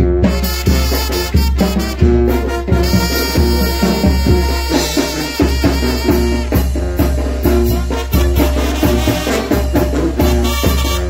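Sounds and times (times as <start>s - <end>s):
drums: 0.0s - 11.0s
trumpet melody: 0.0s - 11.0s.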